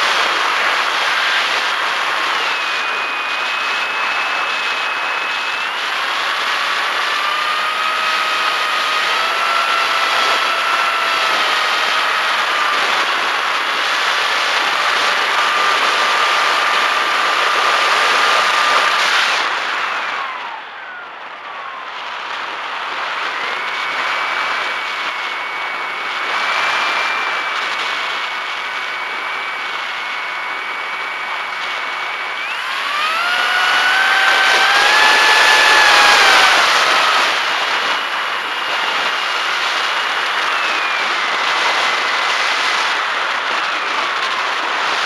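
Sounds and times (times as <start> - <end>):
electric motor whine: 0.0 - 45.0
wind rush: 0.0 - 45.0.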